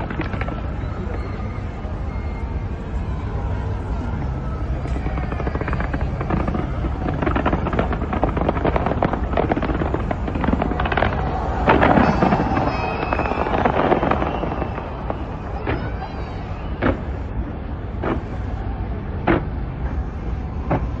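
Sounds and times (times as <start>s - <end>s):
fireworks bursts: 0.0s - 2.0s, 3.8s - 21.0s
fireworks crackling: 0.0s - 3.0s, 3.7s - 21.0s.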